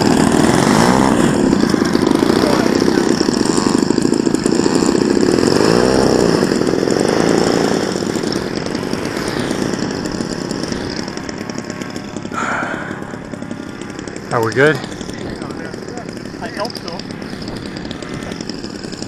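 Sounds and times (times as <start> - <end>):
small two-stroke engine buzzing: 0.0 - 19.0.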